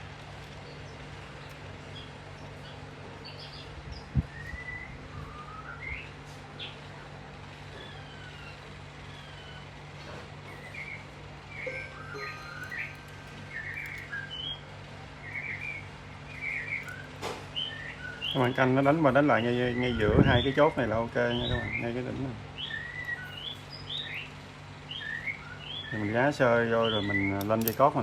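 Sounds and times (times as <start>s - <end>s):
steady low hum: 0.0s - 28.0s
birds chirping and whistling: 0.6s - 6.8s, 7.6s - 27.8s.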